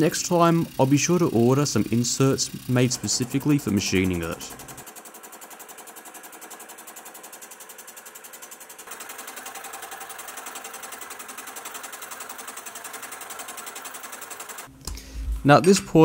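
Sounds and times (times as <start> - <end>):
milling machine cutting cast iron: 0.0 - 14.7.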